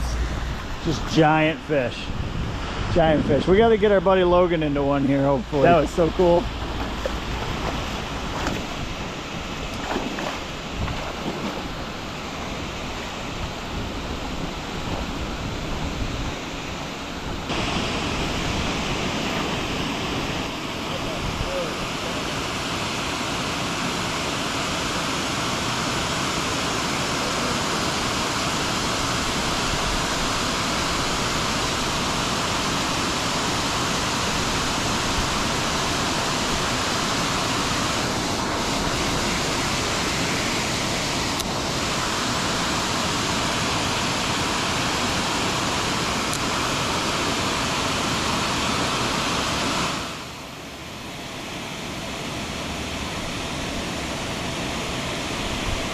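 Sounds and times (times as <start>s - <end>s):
creek water rushing: 0.0s - 55.9s.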